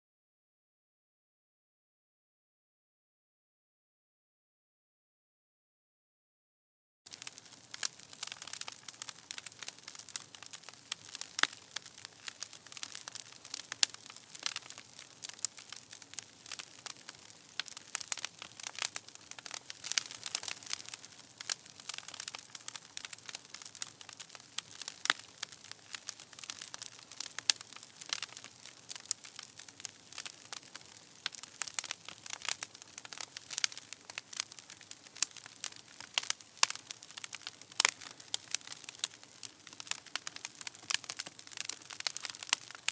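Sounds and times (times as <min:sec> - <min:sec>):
bonfire crackling: 0:07.1 - 0:42.9
burning wood popping and snapping: 0:07.1 - 0:42.9.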